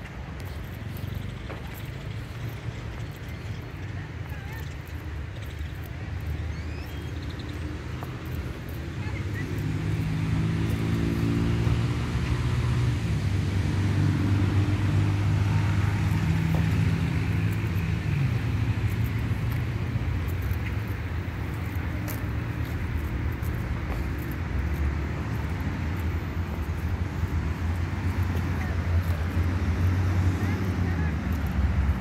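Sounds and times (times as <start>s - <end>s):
car engines humming: 0.0s - 32.0s
passing vehicles: 0.0s - 32.0s.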